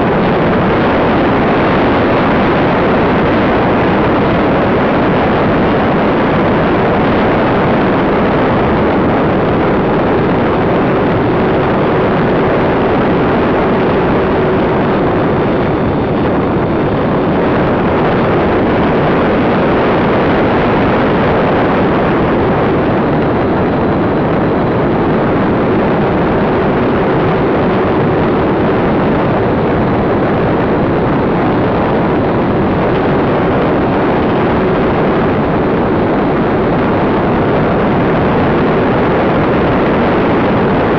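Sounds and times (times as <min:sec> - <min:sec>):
faint hum: 0:00.0 - 0:40.9
wind rushing over microphone: 0:00.0 - 0:40.9.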